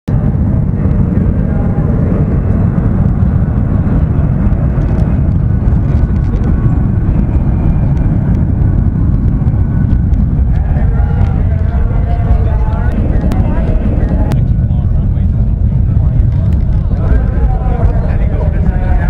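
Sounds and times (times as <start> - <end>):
jet engines rumbling: 0.1 - 19.0.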